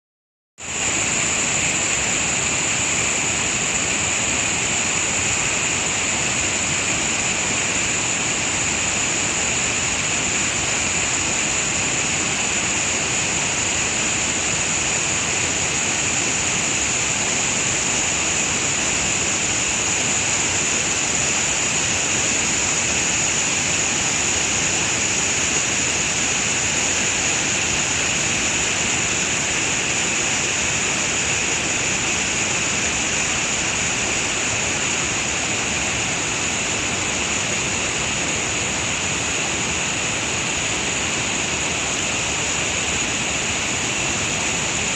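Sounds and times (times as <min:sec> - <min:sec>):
waterfall rushing: 0:00.7 - 0:44.9.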